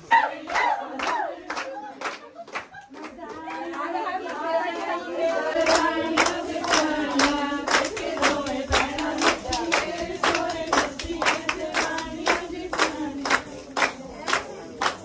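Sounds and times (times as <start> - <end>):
women singing in chorus: 0.0 - 14.4
rhythmic hand-clapping: 0.0 - 15.0.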